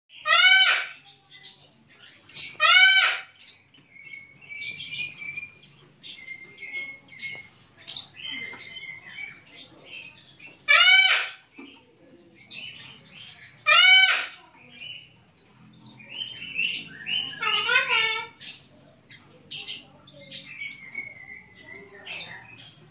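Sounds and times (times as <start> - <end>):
loud drawn-out bird calls: 0.1 - 1.5, 2.2 - 15.1, 15.8 - 22.8
bird chirping and trilling: 0.1 - 22.9.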